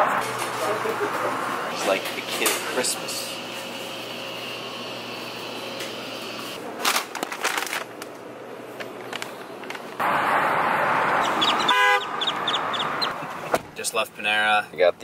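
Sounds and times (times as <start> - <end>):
outdoor parking lot noise: 0.0 - 15.0.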